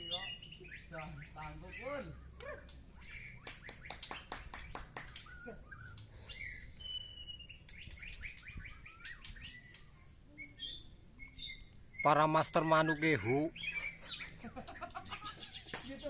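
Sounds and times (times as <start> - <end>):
songbird chirping and whistling: 0.0 - 16.0.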